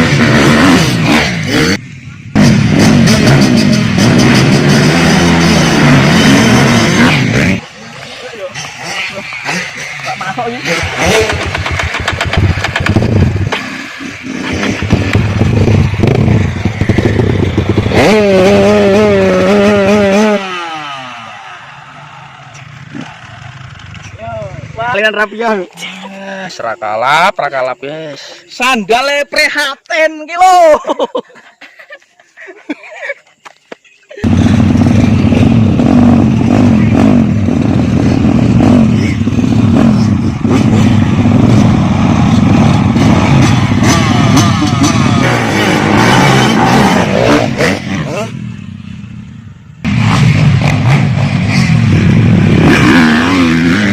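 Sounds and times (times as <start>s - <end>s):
motorcycle engine revving: 0.0s - 25.4s, 34.2s - 53.9s.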